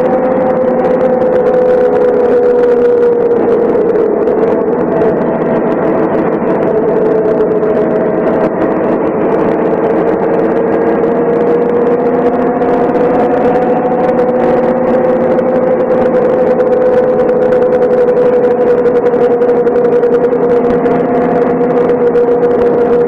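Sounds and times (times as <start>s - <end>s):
bus diesel engine droning: 0.0s - 23.0s.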